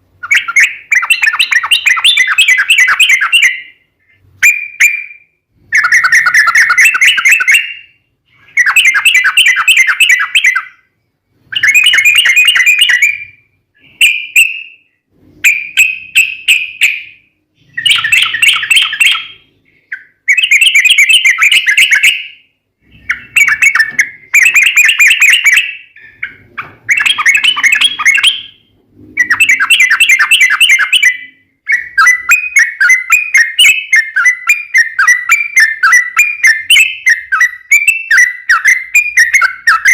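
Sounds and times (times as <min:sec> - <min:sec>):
bird singing chattering notes: 0:00.2 - 0:03.8, 0:04.4 - 0:10.9, 0:11.5 - 0:39.9.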